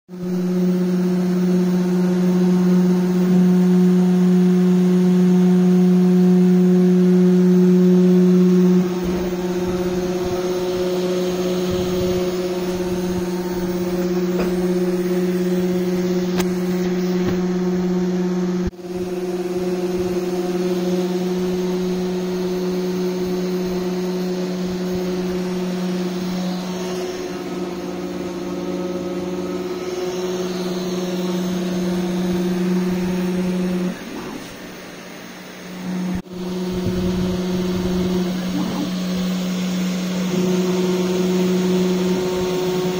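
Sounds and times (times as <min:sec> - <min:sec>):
rough mechanical noise: 0:00.1 - 0:42.9
spindle motor humming: 0:00.1 - 0:42.9.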